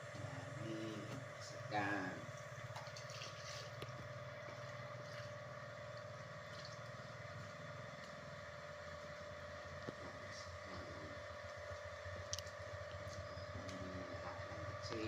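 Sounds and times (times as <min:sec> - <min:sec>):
constant tone: 0:00.0 - 0:15.0
low pulsing mechanical hum: 0:00.0 - 0:15.0.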